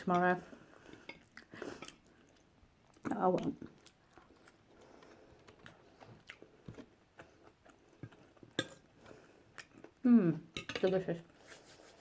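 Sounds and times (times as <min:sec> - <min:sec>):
soft chewing: 0:00.4 - 0:10.1.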